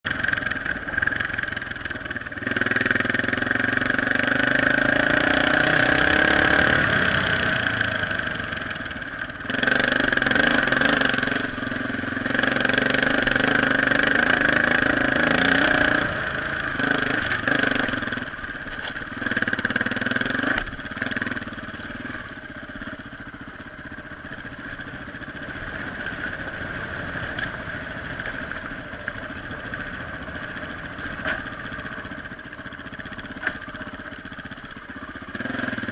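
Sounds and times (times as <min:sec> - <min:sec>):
dirt bike engine revving: 0:02.3 - 0:34.0, 0:34.8 - 0:35.9.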